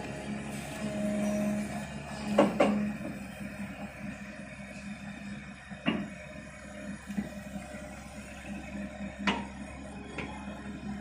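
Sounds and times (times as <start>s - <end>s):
excavator diesel engine: 0.0s - 11.0s.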